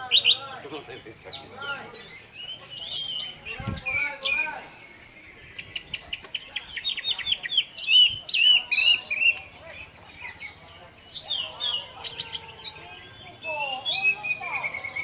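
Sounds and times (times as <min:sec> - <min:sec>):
thrush singing: 0:00.0 - 0:15.0.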